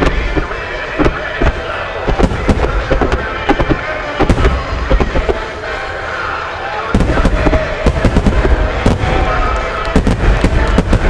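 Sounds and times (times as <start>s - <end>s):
firework shells bursting: 0.0s - 5.5s, 7.0s - 11.0s
continuous low rumble: 0.0s - 11.0s.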